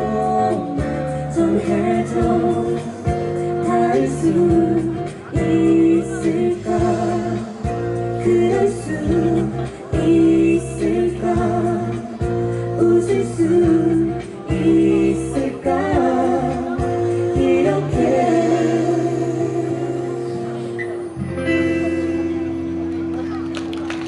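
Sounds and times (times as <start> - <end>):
person singing: 0.0 - 20.7.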